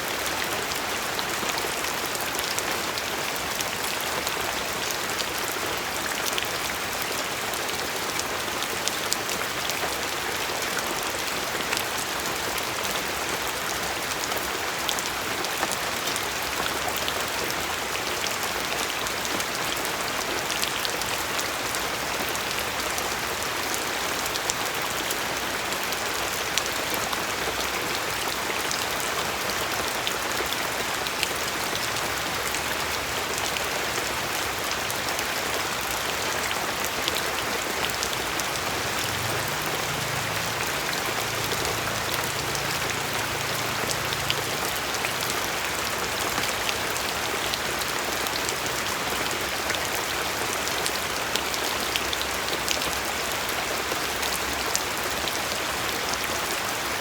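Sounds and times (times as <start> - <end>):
steady rain hiss: 0.0 - 57.0
raindrops ticking on a surface: 0.1 - 56.9.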